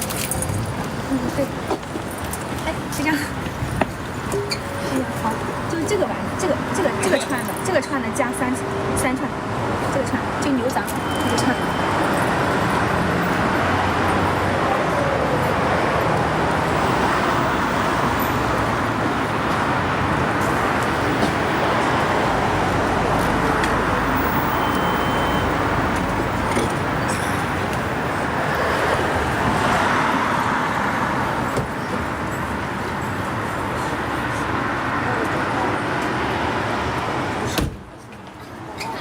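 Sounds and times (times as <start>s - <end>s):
road traffic rush: 0.0s - 39.0s.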